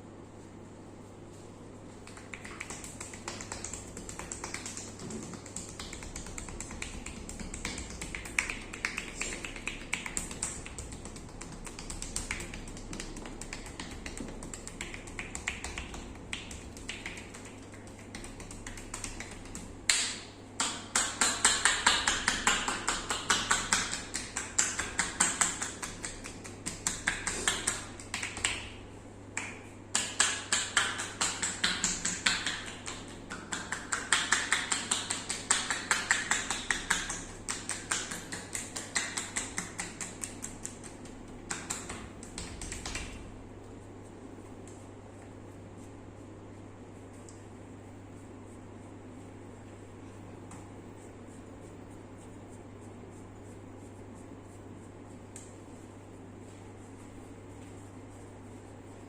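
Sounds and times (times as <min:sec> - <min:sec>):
hands slapping on skin: 0:02.0 - 0:59.0.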